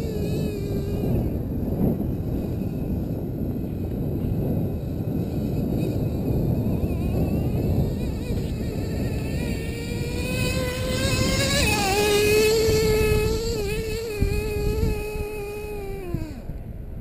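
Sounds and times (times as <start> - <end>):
small two-stroke engine buzzing whine: 0.0 - 17.0.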